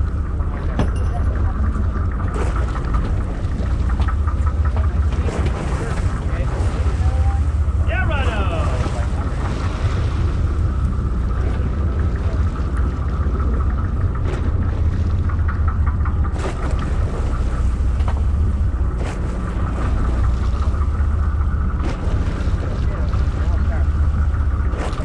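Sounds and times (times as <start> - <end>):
boat engine low rumble: 0.0 - 25.0.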